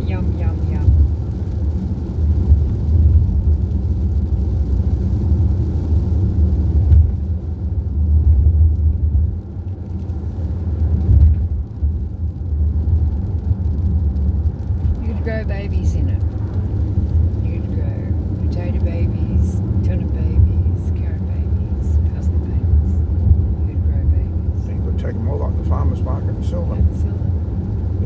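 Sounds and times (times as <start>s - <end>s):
car interior road rumble: 0.0s - 28.0s.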